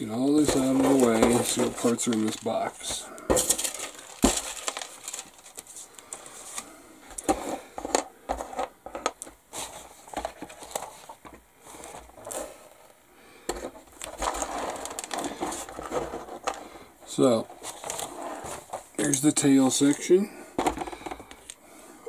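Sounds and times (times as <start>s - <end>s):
plastic parts clicking and clattering: 0.2s - 12.5s, 13.5s - 21.6s.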